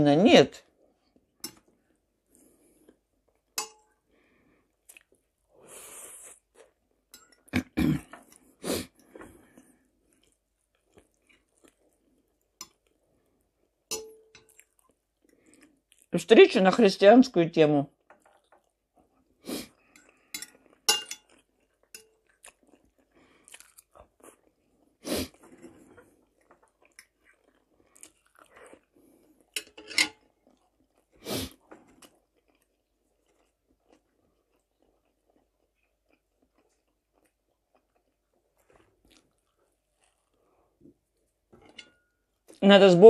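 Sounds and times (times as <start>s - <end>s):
chewing and crunching food: 0.6s - 5.5s, 6.3s - 16.2s, 17.9s - 42.6s.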